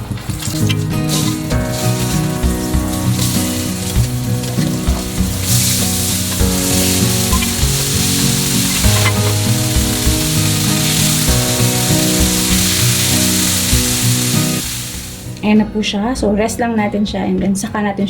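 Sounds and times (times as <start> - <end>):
chicken sizzling in oil: 0.0 - 15.4.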